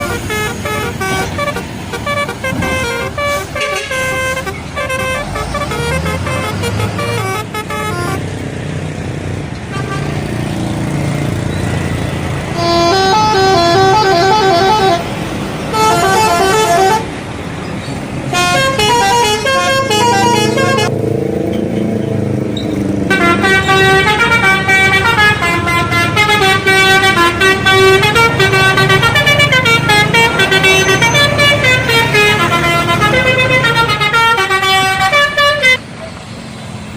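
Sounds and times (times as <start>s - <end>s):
multi-tone musical bus horns: 0.0s - 8.4s, 9.6s - 10.6s, 11.9s - 21.0s, 23.0s - 36.0s
bus engine noise: 0.0s - 36.9s.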